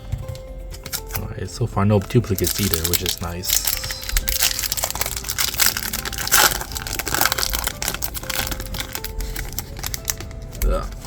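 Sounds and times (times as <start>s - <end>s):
foil wrapper crinkling: 2.0s - 11.0s.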